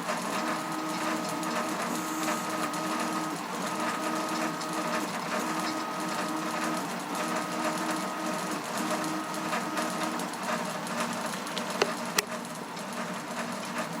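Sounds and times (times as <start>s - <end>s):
stepper motor whining: 0.0s - 13.0s.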